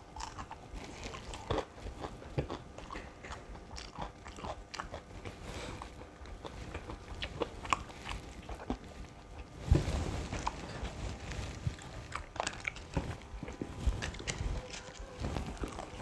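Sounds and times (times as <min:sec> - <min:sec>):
person chewing crispy food: 0:00.0 - 0:16.0.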